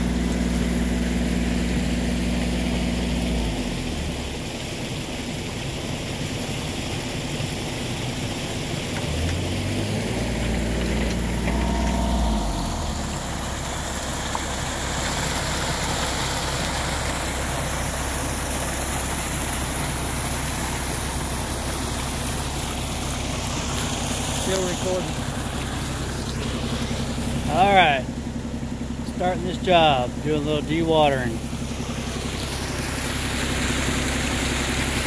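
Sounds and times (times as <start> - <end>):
engine humming: 0.0 - 35.0
muddy water rushing in ditch: 0.0 - 35.0.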